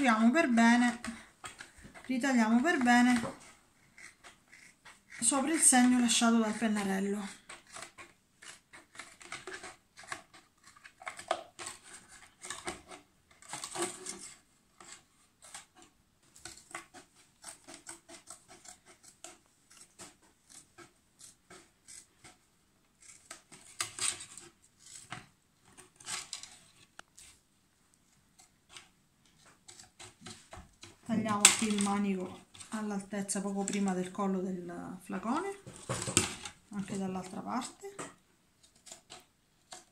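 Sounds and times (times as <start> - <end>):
scissors cutting plastic bottle: 4.0 - 22.4, 23.0 - 26.6, 28.4 - 34.2, 35.2 - 39.9.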